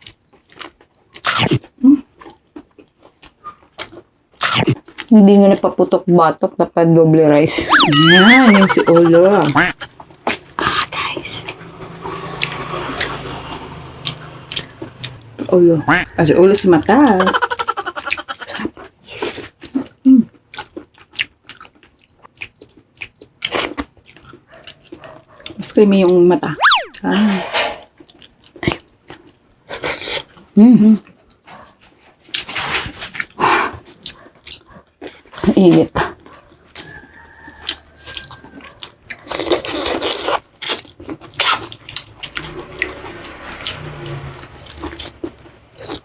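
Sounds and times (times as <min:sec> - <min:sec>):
crunching while eating: 0:00.0 - 0:05.4, 0:09.4 - 0:16.7, 0:17.3 - 0:25.8, 0:27.9 - 0:46.0
wet chewing and smacking: 0:00.0 - 0:05.7, 0:09.3 - 0:16.9, 0:17.5 - 0:26.8, 0:28.0 - 0:46.0.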